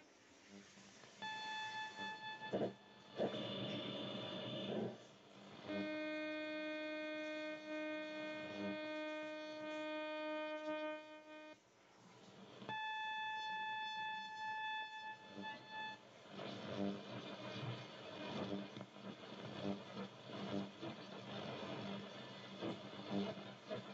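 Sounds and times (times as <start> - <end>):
radio hiss: 0.0 - 23.9
radio buzzing tones: 1.2 - 11.6, 12.6 - 23.9.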